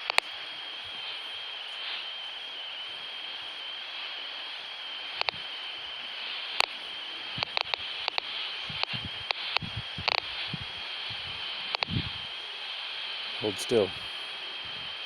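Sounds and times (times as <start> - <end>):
radio speaker crackling clicks: 0.0 - 13.3
radio hiss: 0.0 - 15.0.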